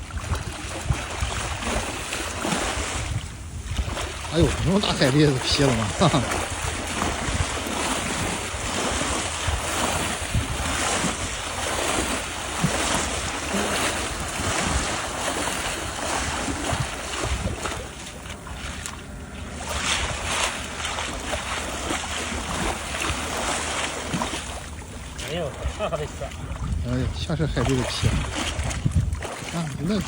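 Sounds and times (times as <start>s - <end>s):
seashore surf: 0.0s - 30.0s
wind on microphone: 0.0s - 30.0s.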